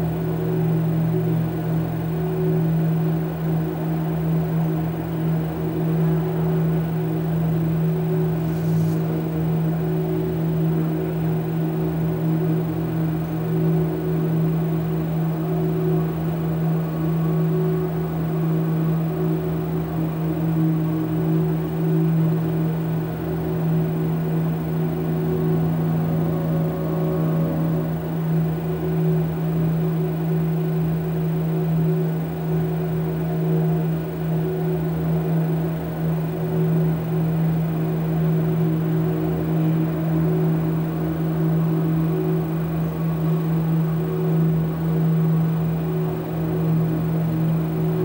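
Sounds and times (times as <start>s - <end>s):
low electronic drone: 0.0s - 48.0s.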